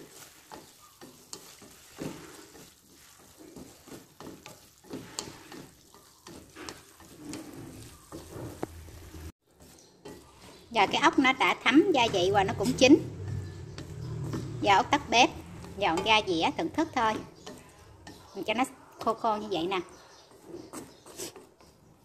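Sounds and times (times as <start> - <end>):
food sizzling: 0.0 - 18.7
utensil stirring and scraping pan: 0.0 - 22.0.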